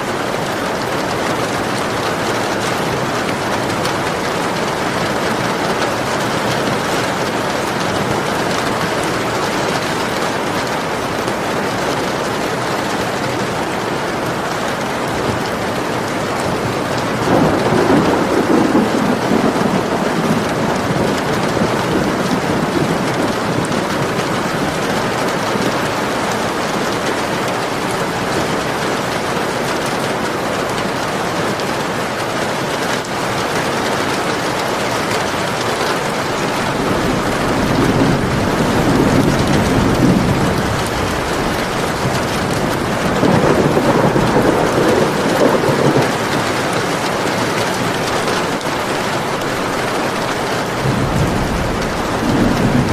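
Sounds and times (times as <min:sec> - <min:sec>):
heavy rain: 0:00.0 - 0:52.9
thunder rumbling: 0:00.1 - 0:31.0, 0:35.6 - 0:52.9.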